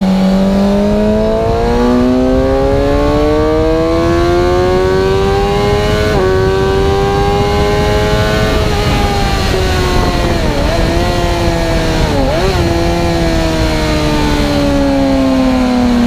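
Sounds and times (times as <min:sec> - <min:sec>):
motorcycle engine accelerating: 0:00.0 - 0:16.0
wind rush: 0:00.1 - 0:16.0.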